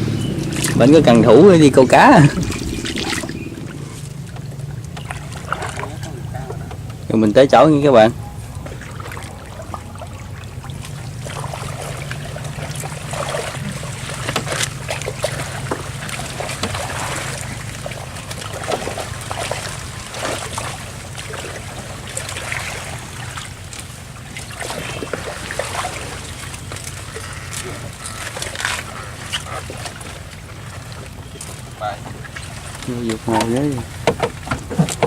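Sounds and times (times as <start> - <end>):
boat motor running: 0.0 - 35.0
water splashing around hull: 0.0 - 35.0.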